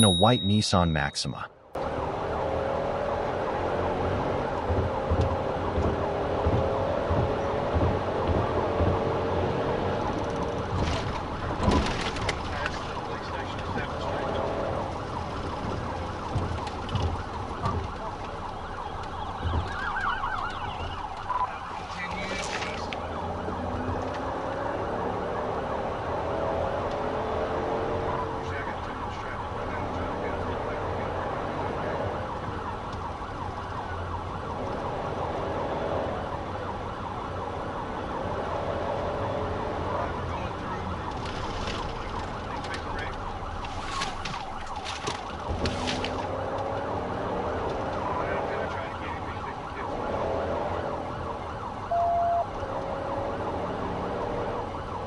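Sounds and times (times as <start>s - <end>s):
engine and road noise: 0.0s - 55.0s
police siren wailing: 1.8s - 55.0s.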